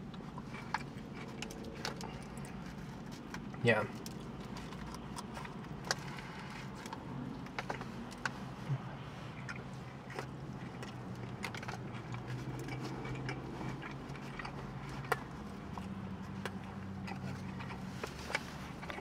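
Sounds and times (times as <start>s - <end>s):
person chewing: 0.0s - 19.0s.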